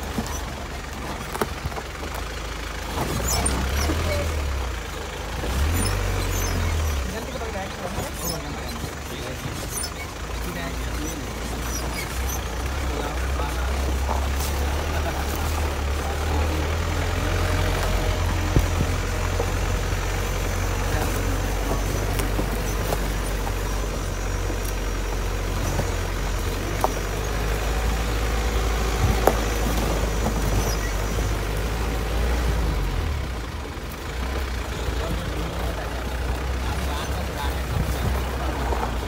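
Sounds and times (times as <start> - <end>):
jeep engine droning: 0.0 - 39.0
sharp knocks from bumpy ride: 0.0 - 39.0.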